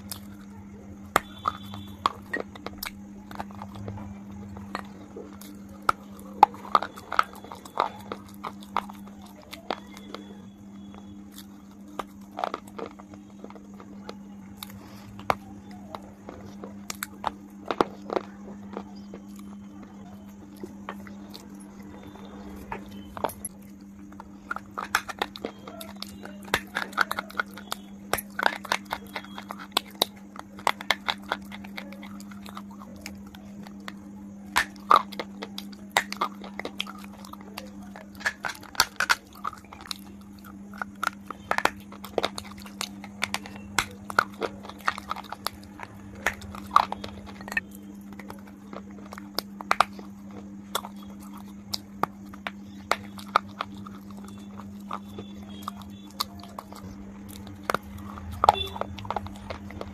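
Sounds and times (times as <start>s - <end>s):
crunching wafer bar: 0.0s - 59.9s
steady low hum: 0.0s - 59.9s.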